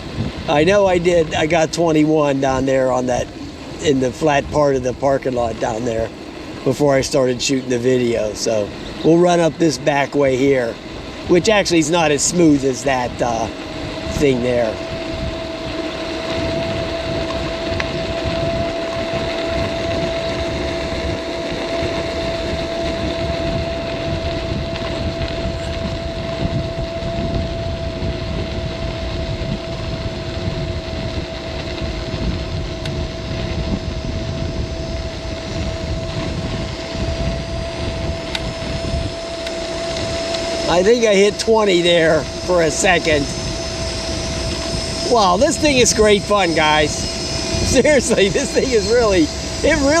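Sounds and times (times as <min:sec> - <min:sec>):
electric scooter motor whining: 0:00.0 - 0:50.0
tyres on rough pavement: 0:00.0 - 0:50.0
wind on microphone: 0:00.0 - 0:50.0.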